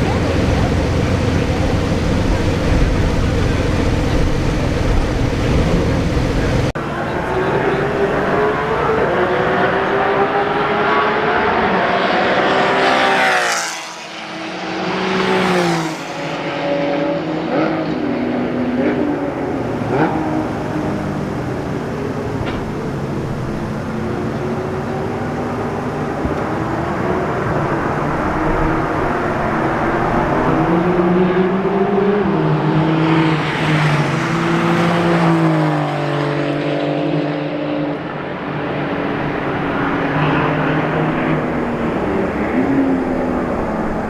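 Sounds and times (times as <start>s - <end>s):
sports car engine revving: 0.0s - 44.0s.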